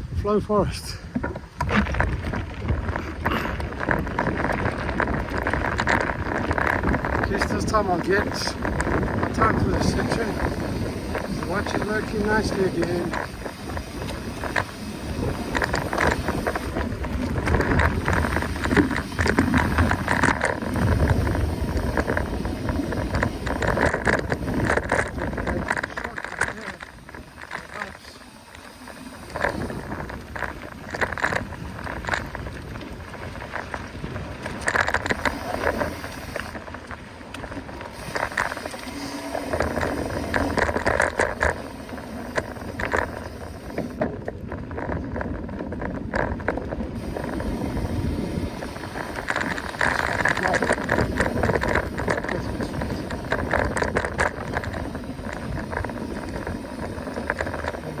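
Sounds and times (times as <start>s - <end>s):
bike clicking and rattling: 0.0s - 58.0s
tyre noise on dirt: 0.0s - 58.0s
wind rumble on microphone: 0.0s - 58.0s.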